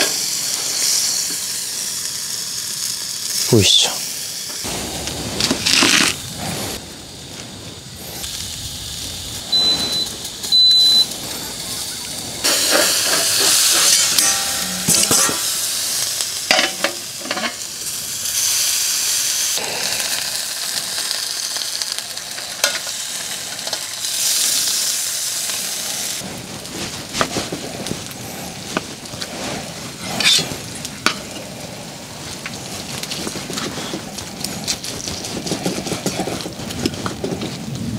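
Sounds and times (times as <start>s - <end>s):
meat sizzling: 0.0s - 37.9s.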